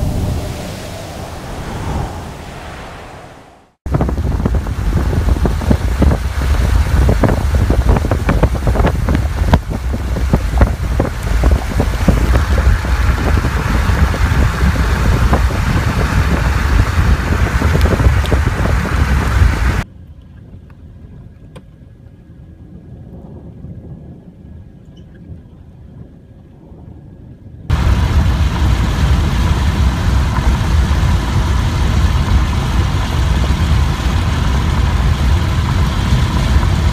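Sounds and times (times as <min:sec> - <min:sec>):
strong wind buffeting microphone: 0:00.0 - 0:19.8, 0:22.5 - 0:36.9.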